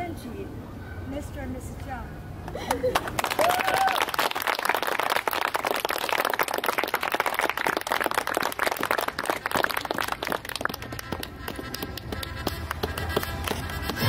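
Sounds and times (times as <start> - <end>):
crowd applauding: 2.7 - 14.0.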